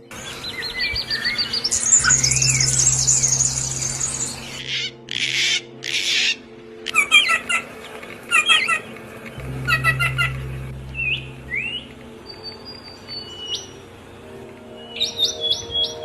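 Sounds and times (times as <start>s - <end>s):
songbirds calling: 0.0s - 16.0s.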